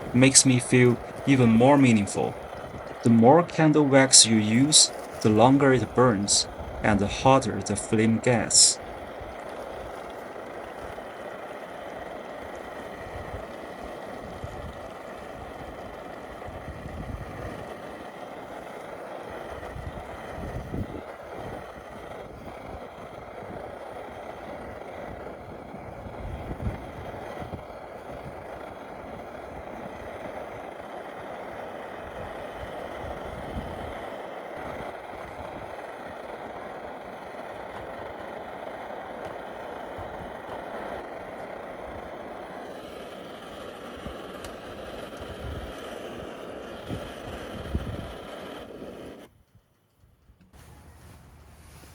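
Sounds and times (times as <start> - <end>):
stove burner roaring: 0.0 - 49.8.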